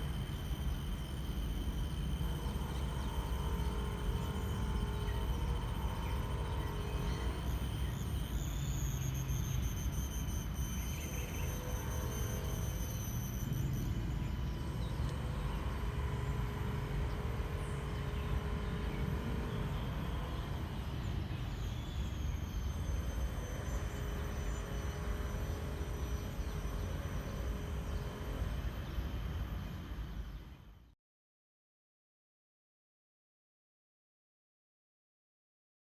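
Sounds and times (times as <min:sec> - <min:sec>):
distant traffic rumble: 0:00.0 - 0:30.4.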